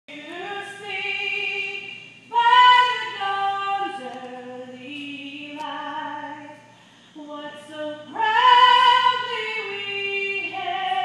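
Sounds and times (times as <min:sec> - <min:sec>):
woman singing unaccompanied: 0:00.1 - 0:11.0.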